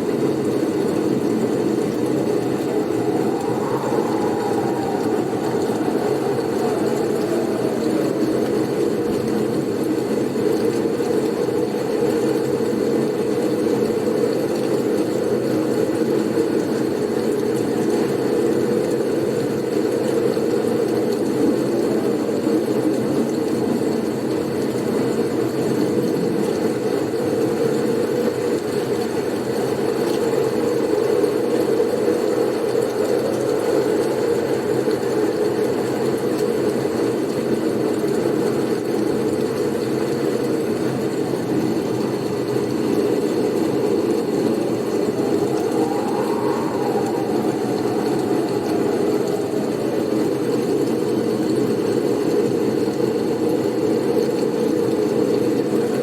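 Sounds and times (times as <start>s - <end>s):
faint wind whistle: 0.0s - 54.6s
blizzard wind rushing: 0.0s - 56.0s.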